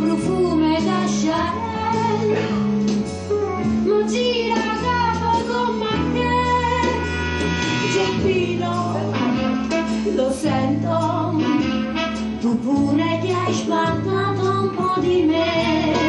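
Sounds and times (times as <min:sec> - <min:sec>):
woman singing: 0:00.0 - 0:02.6, 0:03.8 - 0:16.0
bass and guitar backing: 0:00.0 - 0:16.0.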